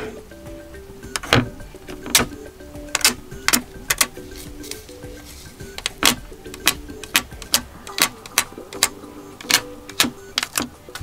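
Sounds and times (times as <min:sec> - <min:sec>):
soft background music: 0:00.0 - 0:11.0
sharp clicks: 0:01.1 - 0:04.8, 0:05.7 - 0:11.0.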